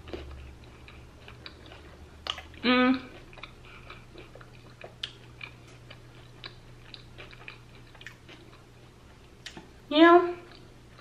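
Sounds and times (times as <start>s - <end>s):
person chewing: 0.0s - 9.7s, 10.4s - 11.0s.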